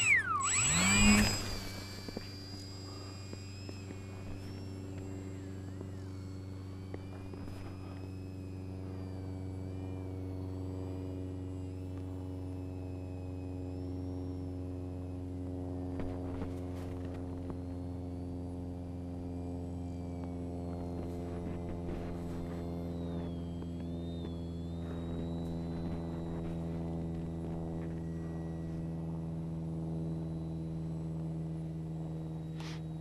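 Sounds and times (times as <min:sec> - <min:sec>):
faint wavering high tones: 0:00.0 - 0:33.0
steady low hum: 0:00.0 - 0:33.0.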